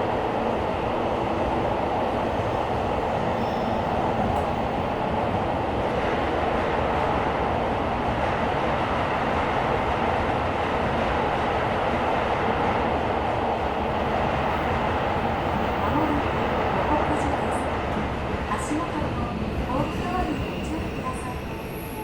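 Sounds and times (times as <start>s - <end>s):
subway train rumble and rail noise: 0.0s - 22.0s.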